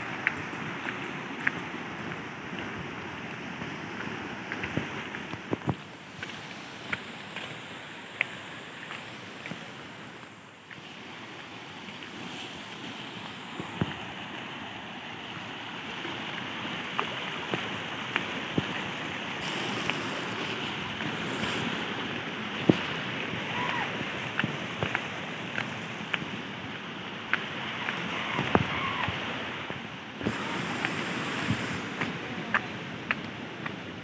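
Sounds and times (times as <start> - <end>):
river rushing over stones: 0.0 - 34.0.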